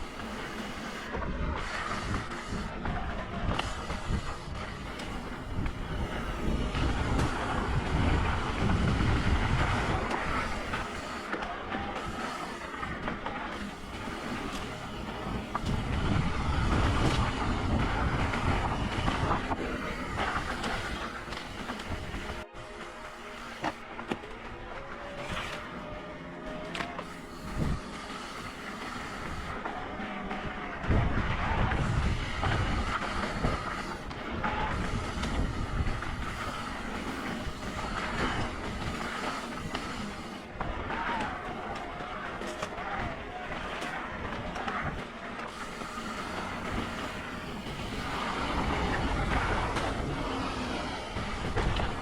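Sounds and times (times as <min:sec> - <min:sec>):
bike tyres and frame rattling: 0:00.0 - 0:22.5, 0:26.6 - 0:52.0
wind on microphone: 0:00.0 - 0:22.5, 0:27.4 - 0:28.1, 0:28.8 - 0:42.0, 0:42.8 - 0:52.0.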